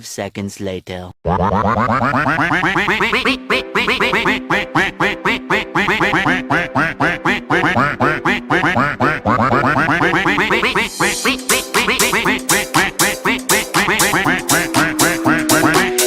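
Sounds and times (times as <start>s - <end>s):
cartoonish duck quacks: 1.2s - 16.0s
backing music: 2.3s - 16.0s.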